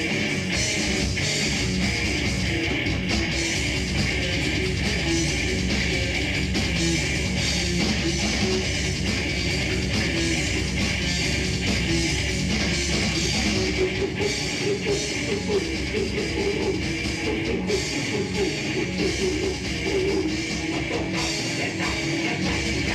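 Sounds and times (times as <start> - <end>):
heavy rock band playing: 0.0 - 22.9.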